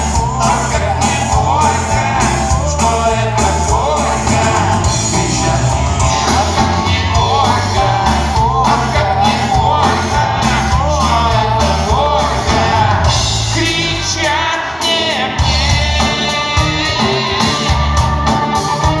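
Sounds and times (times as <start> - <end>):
pulsing bass beat: 0.0 - 14.2, 15.4 - 19.0.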